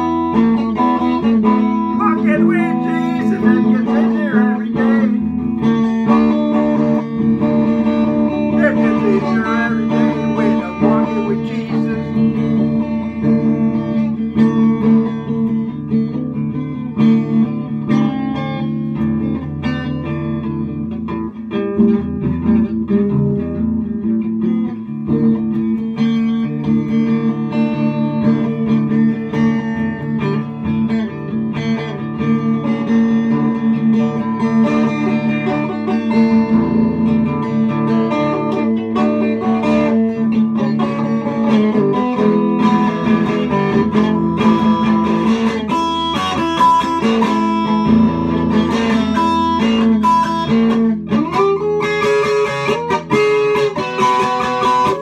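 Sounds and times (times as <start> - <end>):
electric guitar playing: 0.0 - 55.0.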